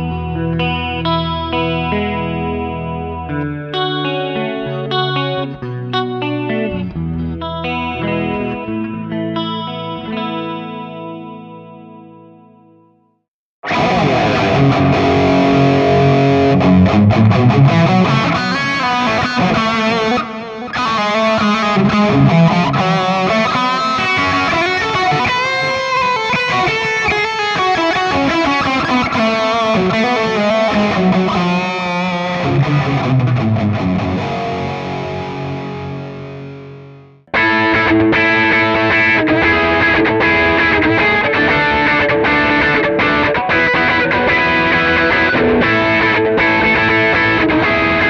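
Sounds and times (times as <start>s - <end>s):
distorted electric guitar lead: 0.0s - 12.5s, 13.6s - 48.0s
overdriven electric guitar riff: 0.0s - 12.8s, 13.6s - 48.0s.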